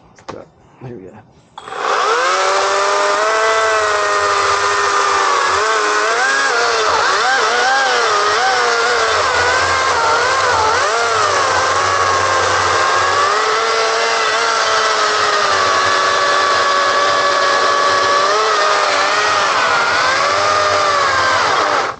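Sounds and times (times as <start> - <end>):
electric chainsaw whining: 1.6 - 21.9.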